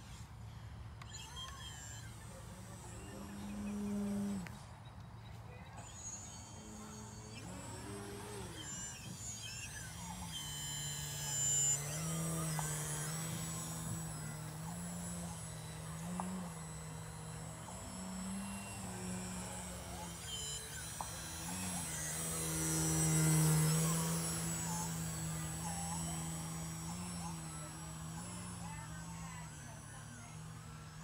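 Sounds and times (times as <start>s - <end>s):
model plane electric motor buzzing: 0.0s - 31.0s.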